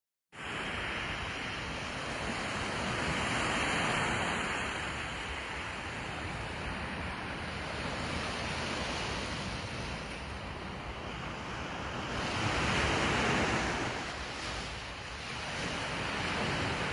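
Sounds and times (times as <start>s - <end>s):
sea washing against shore: 0.4s - 16.9s.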